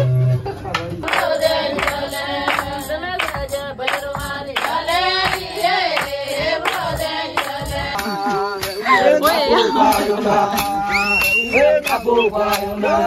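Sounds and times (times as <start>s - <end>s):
handclaps keeping time: 0.7s - 13.0s
group singing together: 0.9s - 13.0s.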